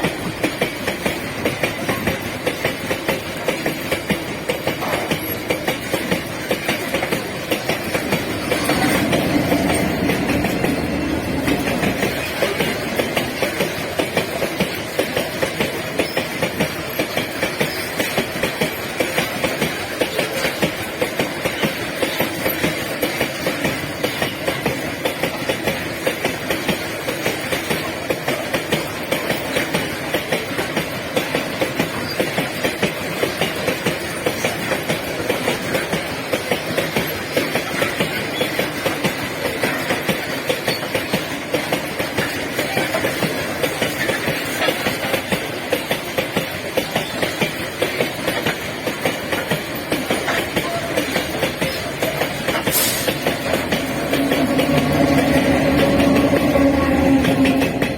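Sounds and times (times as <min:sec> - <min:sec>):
freight train wagons rolling: 0:00.0 - 0:57.9
wheels clacking over rail joints: 0:00.0 - 0:57.9.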